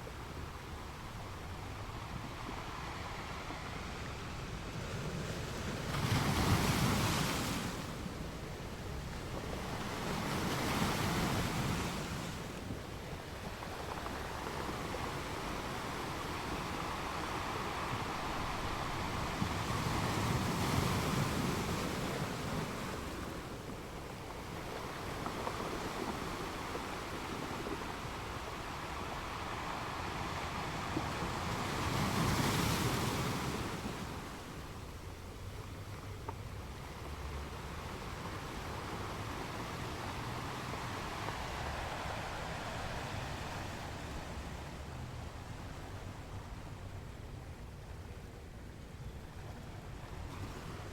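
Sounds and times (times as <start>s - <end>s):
ocean waves on shore: 0.0s - 50.9s.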